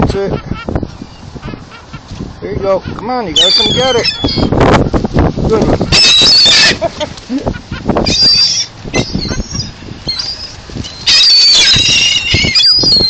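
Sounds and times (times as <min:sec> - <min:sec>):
wind rumbling on microphone: 0:00.0 - 0:13.0
birds squealing cries: 0:00.4 - 0:04.6, 0:05.7 - 0:13.0.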